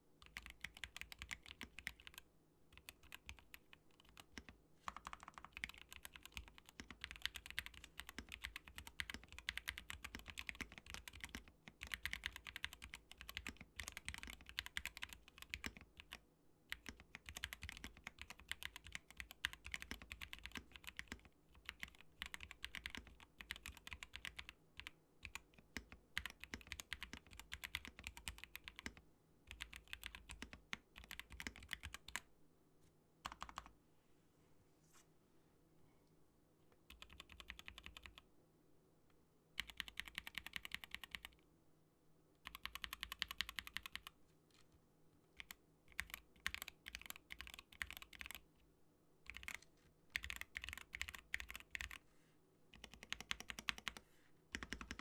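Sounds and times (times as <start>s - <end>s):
fast typing on mechanical keyboard: 0.2s - 2.2s, 2.8s - 32.2s, 33.3s - 33.7s, 36.9s - 38.2s, 39.6s - 41.4s, 42.4s - 44.1s, 45.4s - 48.4s, 49.3s - 52.0s, 52.7s - 55.0s.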